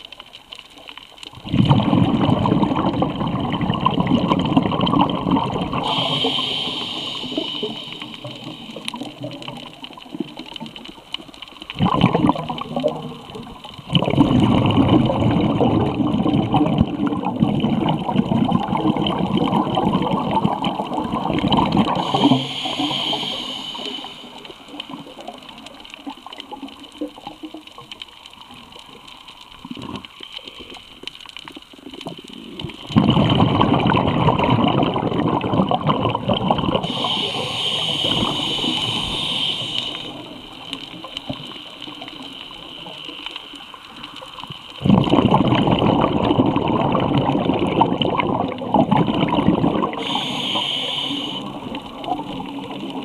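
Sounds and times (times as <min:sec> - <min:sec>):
underwater bubbling rush: 0:00.0 - 0:53.0.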